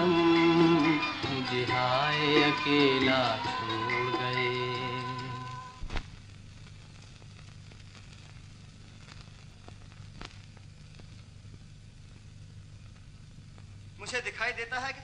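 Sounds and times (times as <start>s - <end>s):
faint hiss: 0.0s - 15.0s
film crackles and clicks: 0.2s - 14.9s.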